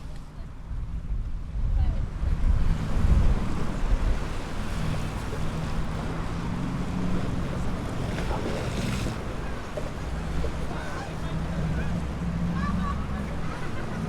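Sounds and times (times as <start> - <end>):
lake waves washing: 0.0 - 14.0
wind rumbling on microphone: 0.0 - 14.0.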